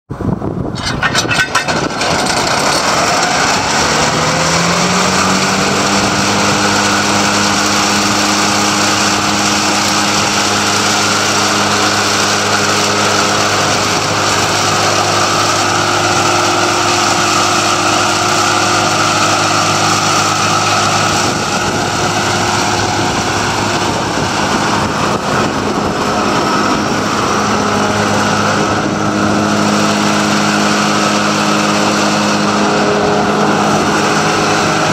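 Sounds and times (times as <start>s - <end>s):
tractor and mower mechanical drone: 0.1s - 34.9s.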